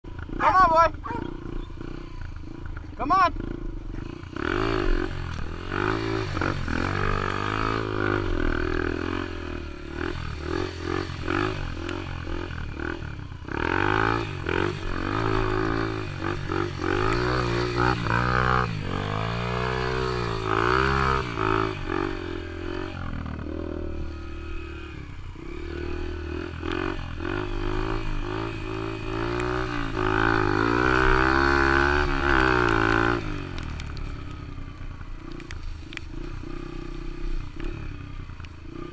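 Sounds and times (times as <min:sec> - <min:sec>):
dirt bike engine revving: 0:00.1 - 0:38.9.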